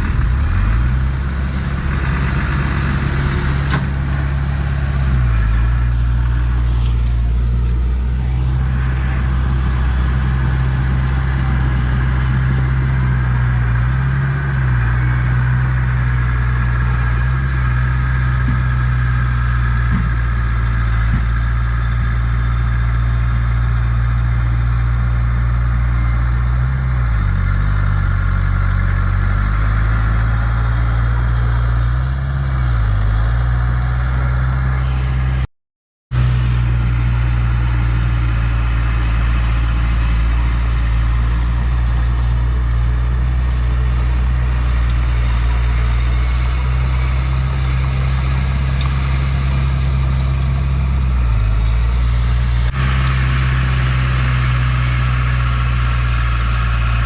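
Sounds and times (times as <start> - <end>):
heavy diesel engine running: 0.0 - 35.5, 36.1 - 57.0.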